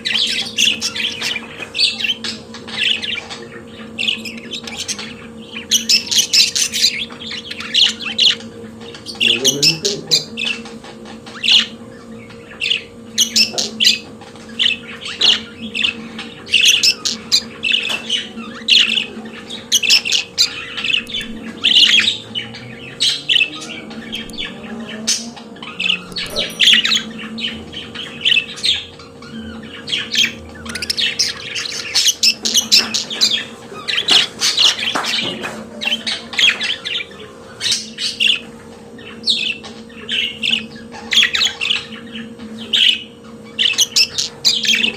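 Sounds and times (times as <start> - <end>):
budgerigars chattering: 0.0 - 44.9
faint steady hum: 0.0 - 44.9.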